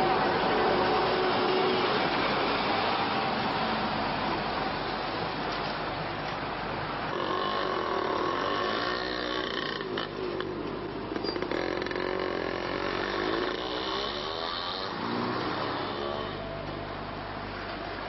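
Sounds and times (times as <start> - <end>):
vehicle motor whine: 0.0 - 18.0.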